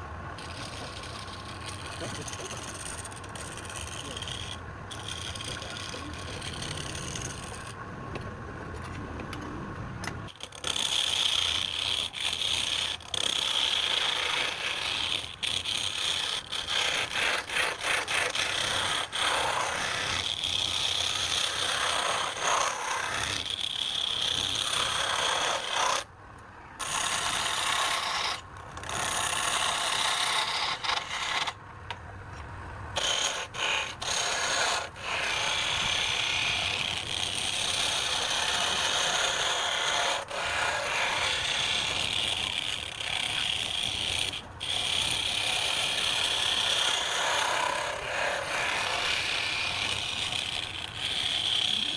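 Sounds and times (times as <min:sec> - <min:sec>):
woodturning tool scraping wood: 0:00.0 - 0:07.8, 0:10.3 - 0:26.1, 0:26.8 - 0:31.6, 0:32.9 - 0:51.9
lathe running: 0:00.4 - 0:07.6, 0:10.4 - 0:26.0, 0:33.0 - 0:51.9.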